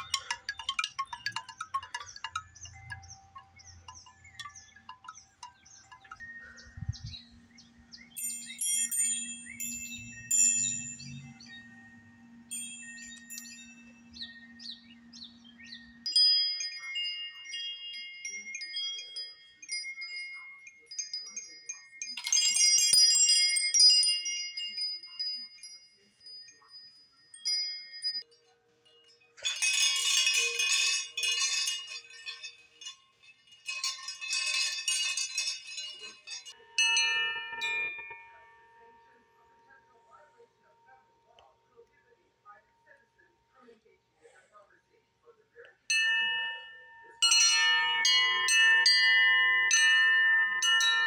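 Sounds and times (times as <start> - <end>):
metal wind chimes ringing: 0.0 - 51.0.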